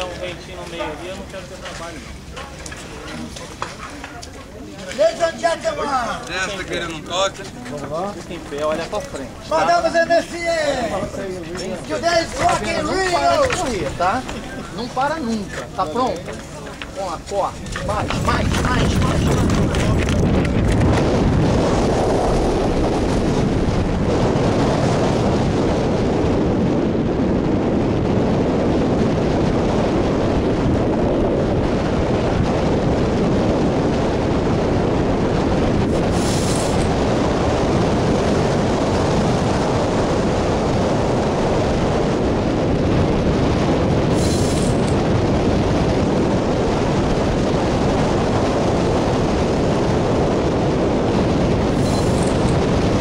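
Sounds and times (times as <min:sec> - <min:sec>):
wind rushing on microphone: 0:00.0 - 0:53.0.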